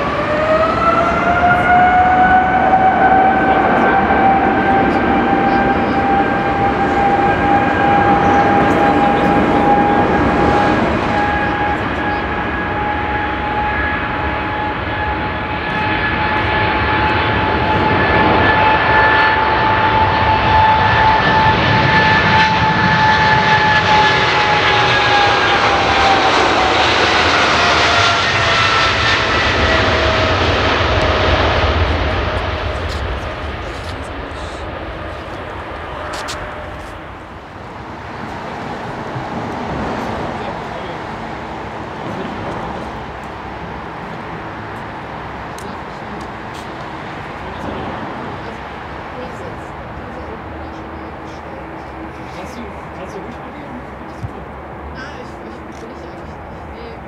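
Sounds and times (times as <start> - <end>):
jet engines whining and roaring: 0.0 - 57.0.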